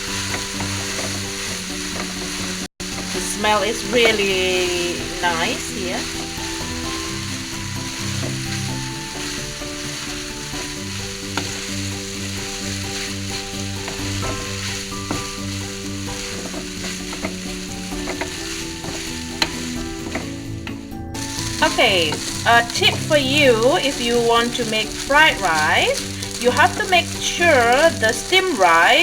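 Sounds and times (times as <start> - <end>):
rice sizzling in a pan: 0.0 - 29.0.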